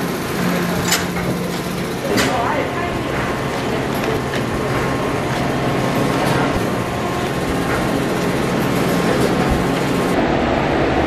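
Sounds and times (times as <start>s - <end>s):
conveyor machinery hum: 0.0s - 11.0s.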